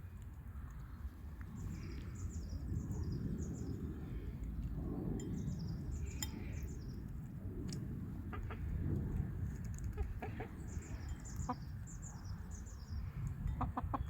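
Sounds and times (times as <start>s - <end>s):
small birds chirping: 0.0s - 7.3s, 9.9s - 14.0s
steady low rumble: 0.0s - 14.0s.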